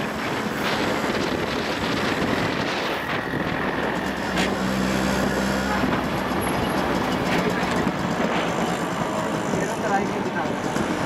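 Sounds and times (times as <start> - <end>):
engine hum: 0.0 - 11.0
traffic noise: 0.0 - 11.0
wind: 0.0 - 11.0.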